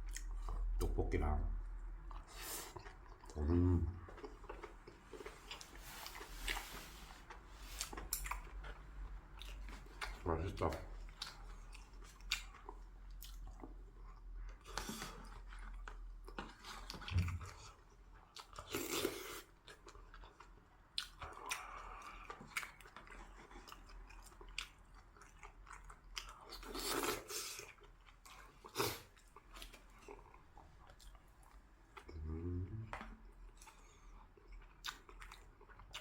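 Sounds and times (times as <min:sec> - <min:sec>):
person chewing food: 0:00.0 - 0:00.9, 0:01.8 - 0:36.0.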